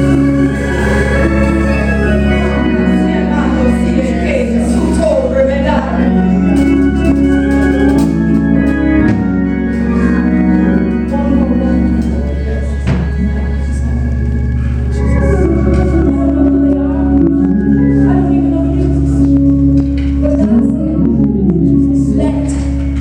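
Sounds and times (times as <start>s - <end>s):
organ playing sustained chords: 0.0s - 23.0s
steady low hum: 0.0s - 23.0s.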